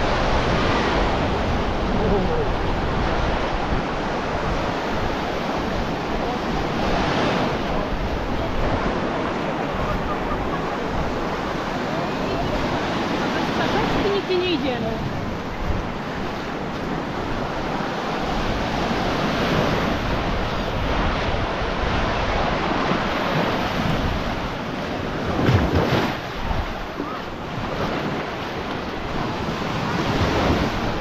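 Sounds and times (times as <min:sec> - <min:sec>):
waves breaking on shore: 0:00.0 - 0:31.0
wind buffeting microphone: 0:00.0 - 0:31.0.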